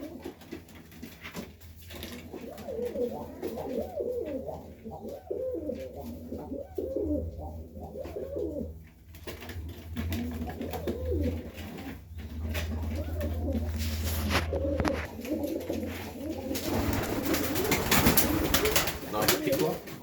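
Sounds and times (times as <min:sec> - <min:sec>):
low steady hum: 0:00.0 - 0:20.0
pigeons cooing: 0:00.0 - 0:20.0.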